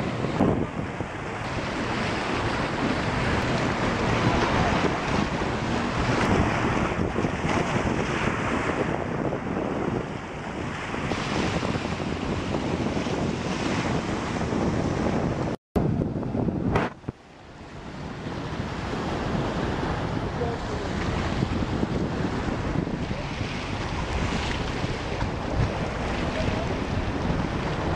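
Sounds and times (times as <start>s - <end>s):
rushing water: 0.0s - 15.6s, 16.4s - 27.9s
wind buffeting microphone: 0.0s - 27.9s.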